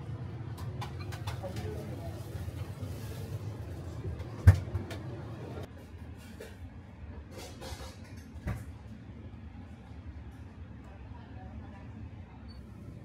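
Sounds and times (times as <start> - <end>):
restaurant kitchen hum: 0.0 - 13.0.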